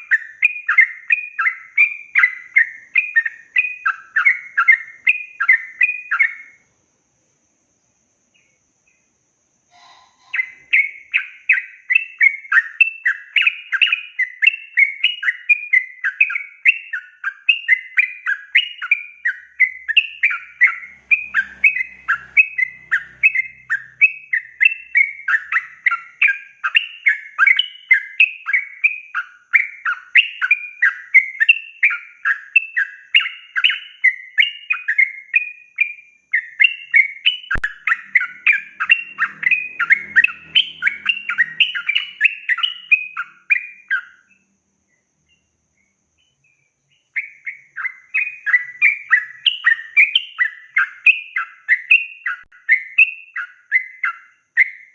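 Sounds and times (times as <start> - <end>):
bulbul singing: 0.0 - 6.8, 7.7 - 54.9.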